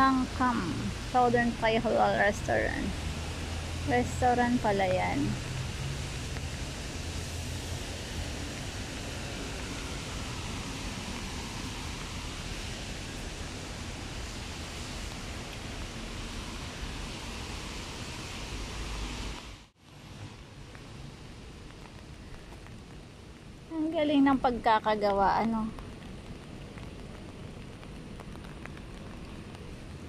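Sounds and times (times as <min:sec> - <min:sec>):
light rain hissing: 0:00.0 - 0:30.0.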